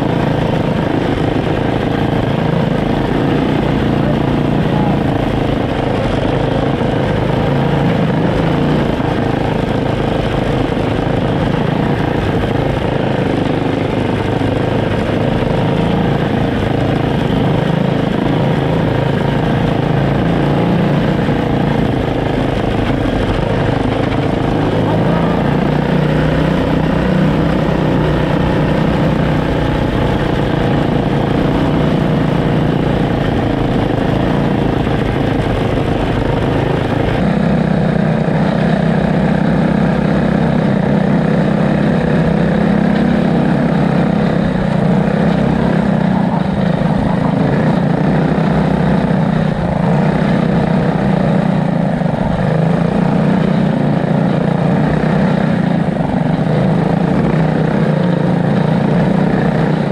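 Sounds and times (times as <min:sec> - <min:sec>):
go-kart engines running: 0:00.0 - 0:59.9.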